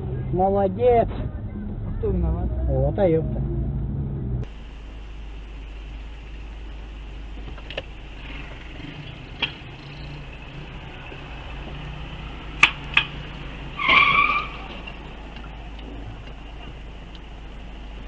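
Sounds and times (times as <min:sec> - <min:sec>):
car engine drone: 0:00.0 - 0:18.0
road noise: 0:00.0 - 0:18.0.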